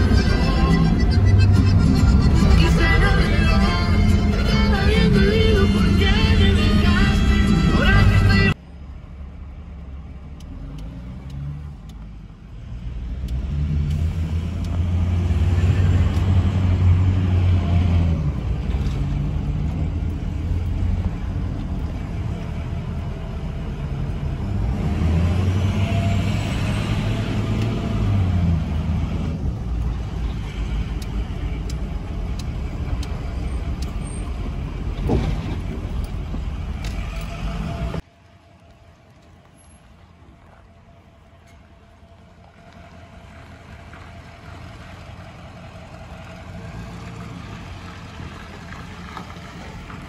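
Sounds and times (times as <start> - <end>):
truck engine running: 0.0 - 10.9, 11.6 - 50.0
quiet outdoor background: 0.0 - 50.0
road noise: 0.0 - 50.0.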